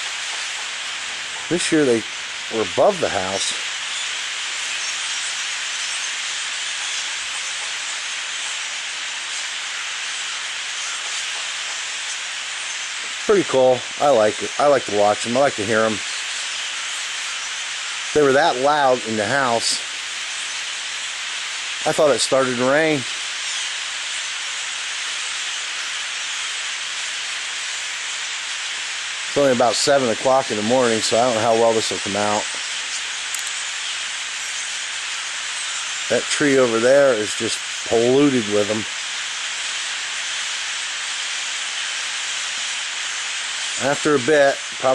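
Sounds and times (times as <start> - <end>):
huge flock of birds calling: 0.0 - 44.9.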